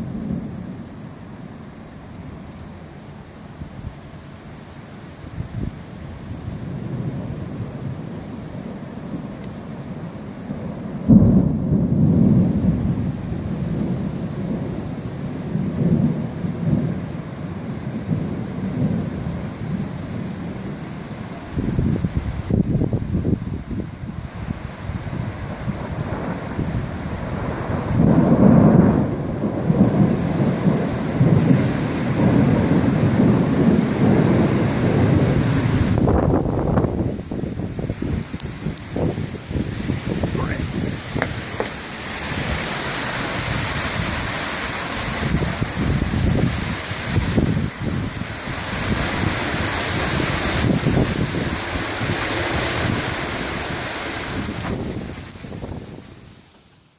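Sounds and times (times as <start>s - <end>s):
low thunder rumble: 0.0s - 4.1s, 5.2s - 56.4s
rain: 0.0s - 56.9s
wind: 0.0s - 56.9s.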